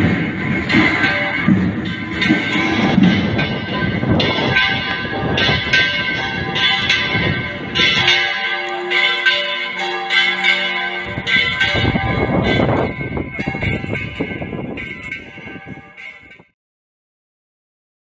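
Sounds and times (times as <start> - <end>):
church bells ringing: 0.0 - 16.6.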